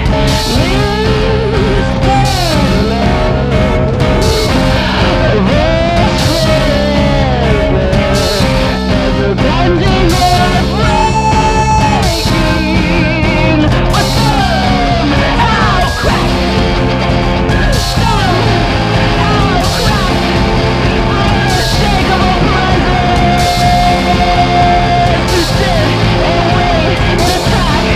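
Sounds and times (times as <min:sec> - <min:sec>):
rock band playing: 0:00.0 - 0:27.9
sliding lead guitar melody: 0:00.0 - 0:27.9.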